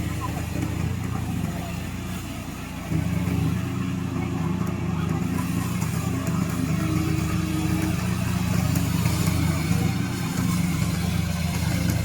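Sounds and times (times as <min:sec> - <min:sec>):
mower engine running steadily: 0:00.0 - 0:12.0.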